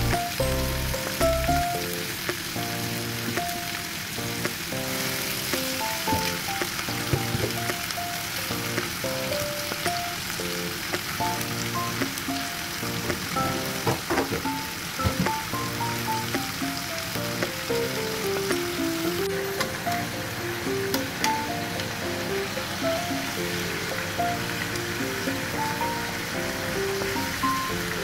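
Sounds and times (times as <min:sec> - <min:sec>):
fish sizzling in a wok: 0:00.0 - 0:28.0
light background music: 0:00.0 - 0:28.0.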